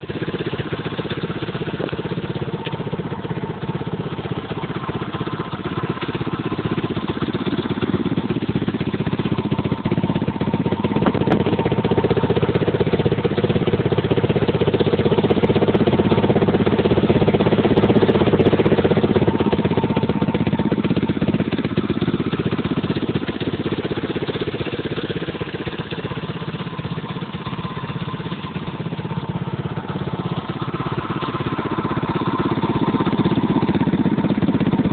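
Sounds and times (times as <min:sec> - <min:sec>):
dirt bike engine running: 0:00.0 - 0:34.9.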